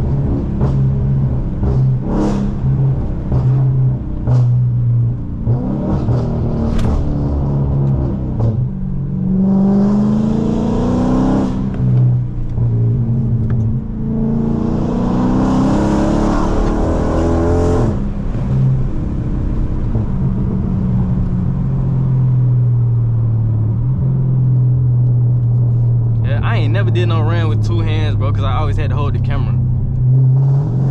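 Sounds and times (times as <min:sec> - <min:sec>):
loud car engine revving: 0:00.0 - 0:20.8, 0:26.2 - 0:30.9.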